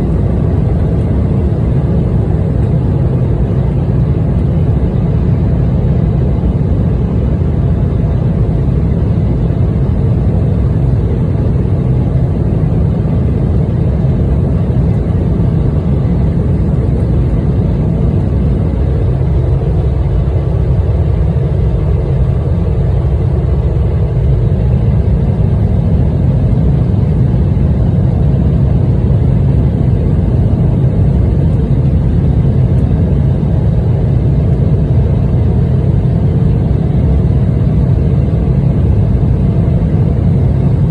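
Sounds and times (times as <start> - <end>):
jet engines low rumble: 0.0 - 40.9.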